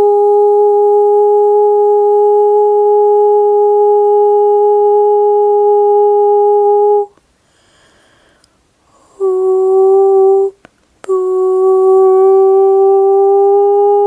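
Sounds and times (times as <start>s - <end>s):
woman humming held notes: 0.0s - 7.2s, 8.9s - 14.0s.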